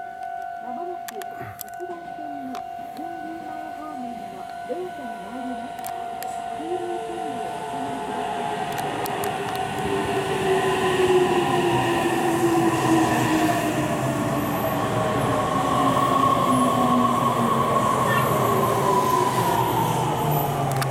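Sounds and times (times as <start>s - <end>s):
train wheel and rail noise: 0.0s - 20.9s.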